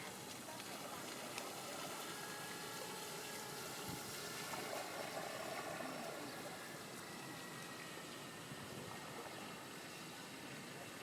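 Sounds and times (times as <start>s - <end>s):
faint motor hum: 0.0s - 11.0s
water washing around boat hull: 0.0s - 11.0s.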